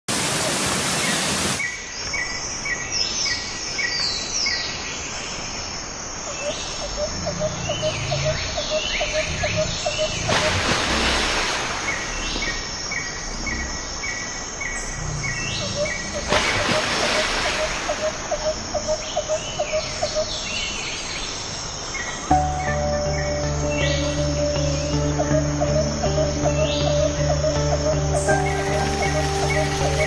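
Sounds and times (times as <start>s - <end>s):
rushing background noise: 0.1s - 30.0s
small birds calling and singing: 1.0s - 10.7s, 12.0s - 30.0s.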